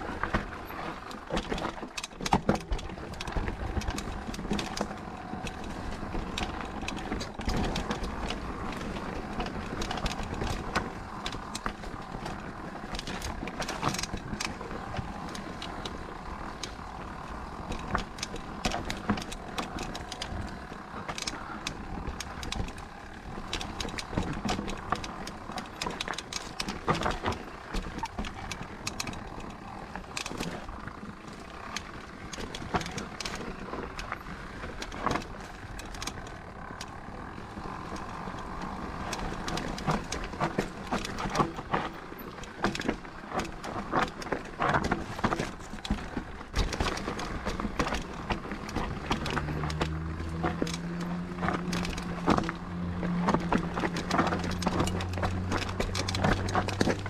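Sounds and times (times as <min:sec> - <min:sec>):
bike knocking and rattling: 0:00.0 - 0:57.0
tyres and wind rushing: 0:00.0 - 0:57.0.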